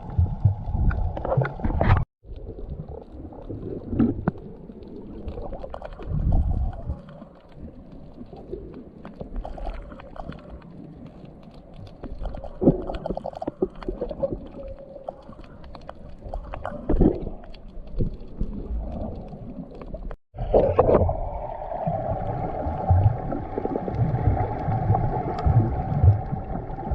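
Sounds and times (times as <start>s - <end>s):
low underwater rumbles: 0.0s - 26.9s
underwater gurgling and bubbles: 0.0s - 26.9s.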